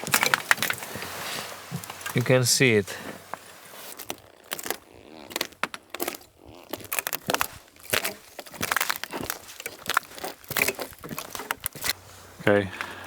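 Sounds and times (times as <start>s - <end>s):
footsteps crackling on frozen boardwalk: 0.0s - 13.0s.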